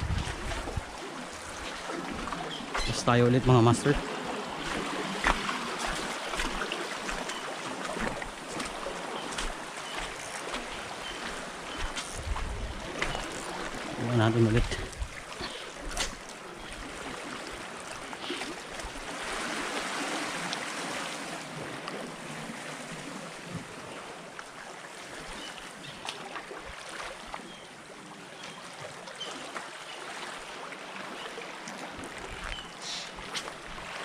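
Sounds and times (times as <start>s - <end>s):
small waves lapping: 0.0s - 34.0s.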